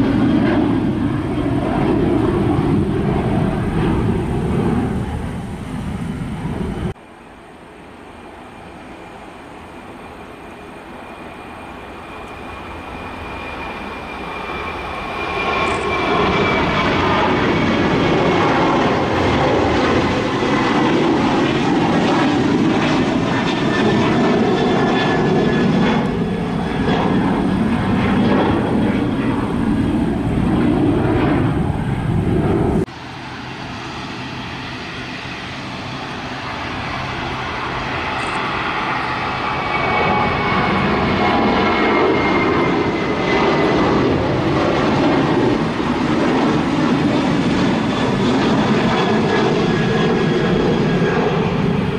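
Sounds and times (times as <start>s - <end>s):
jet airliner roar with high whine: 0.0s - 51.9s.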